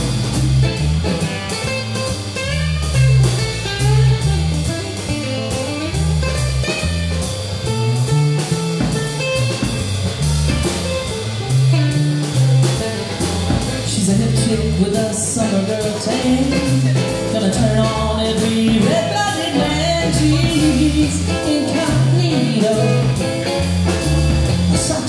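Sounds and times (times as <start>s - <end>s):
drum kit groove: 0.0s - 25.0s
electric bass: 0.0s - 25.0s.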